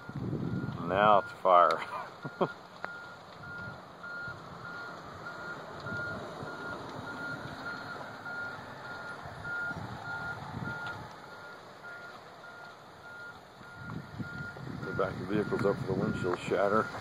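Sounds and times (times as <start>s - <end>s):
truck reversing alarm beeping: 0.0s - 17.0s.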